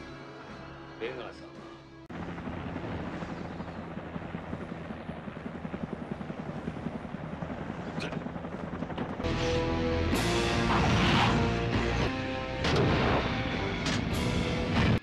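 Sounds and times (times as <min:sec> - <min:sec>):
helicopter rotors chopping: 0:02.1 - 0:15.0.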